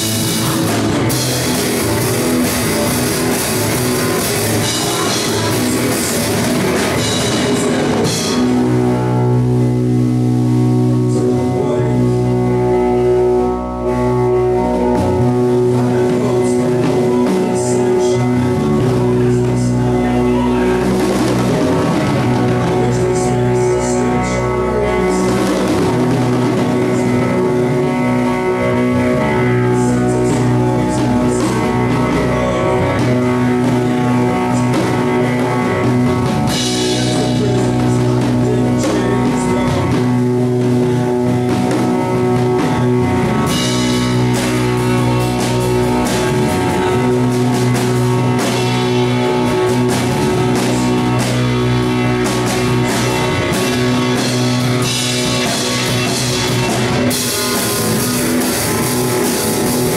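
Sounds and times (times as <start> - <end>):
drums and cymbals: 0.0 - 11.3, 13.9 - 59.9
bass guitar low notes: 0.0 - 59.9
electric guitar: 0.0 - 59.9.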